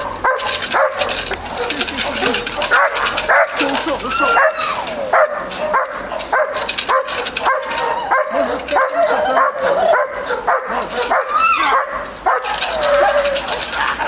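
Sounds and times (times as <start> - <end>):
dog barking rapidly: 0.0 - 14.0.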